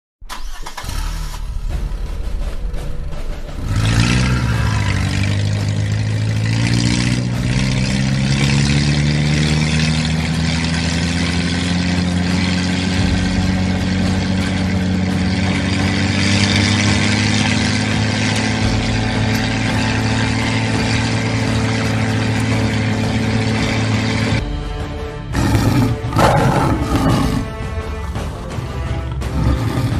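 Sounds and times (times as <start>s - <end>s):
vehicle engine running: 0.4s - 29.9s.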